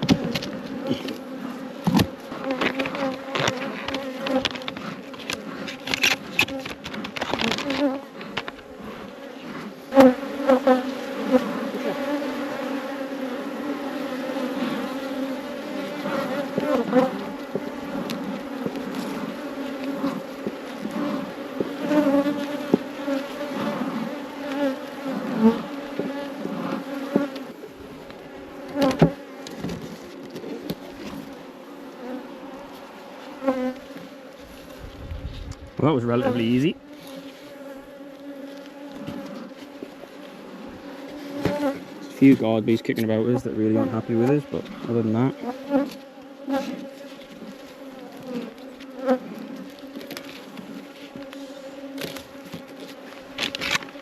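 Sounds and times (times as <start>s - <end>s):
honey bees buzzing: 0.0s - 54.0s.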